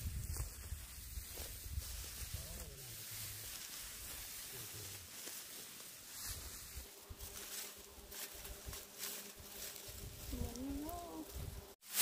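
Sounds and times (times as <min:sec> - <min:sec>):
flying insect buzzing: 0:00.5 - 0:12.0.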